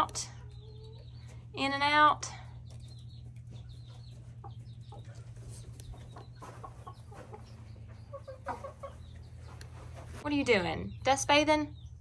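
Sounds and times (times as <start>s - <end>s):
chickens clucking: 0.0s - 1.6s, 2.4s - 10.9s.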